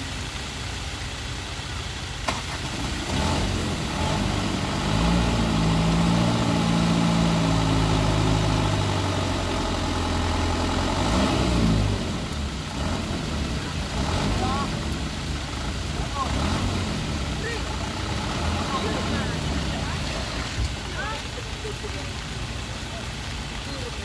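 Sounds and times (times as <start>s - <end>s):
truck engine running under load: 0.0s - 24.0s.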